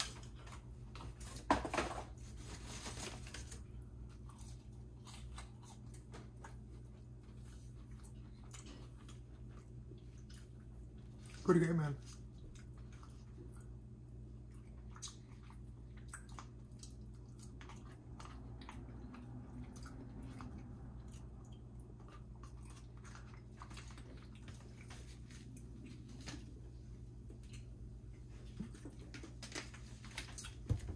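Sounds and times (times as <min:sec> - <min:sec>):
steady low hum: 0:00.0 - 0:30.9
person chewing food: 0:03.6 - 0:11.4, 0:12.0 - 0:30.9.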